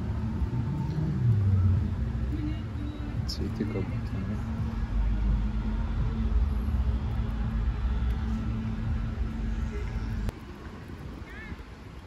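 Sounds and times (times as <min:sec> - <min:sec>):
vehicle motor humming: 0:00.0 - 0:11.1.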